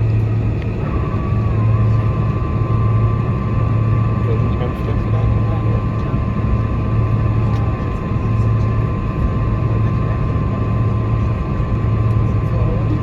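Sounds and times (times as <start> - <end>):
airplane cabin engine hum: 0.0 - 13.0
low rumble: 0.0 - 13.0
thin steady whine: 0.0 - 13.0.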